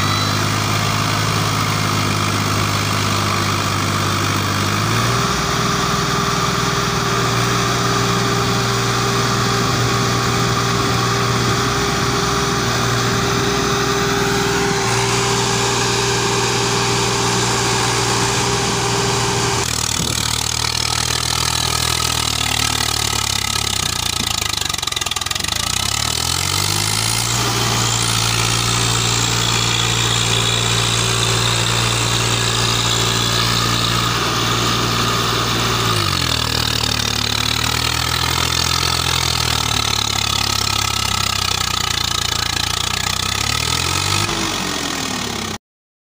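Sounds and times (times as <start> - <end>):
tractor diesel engine revving: 0.0 - 45.6.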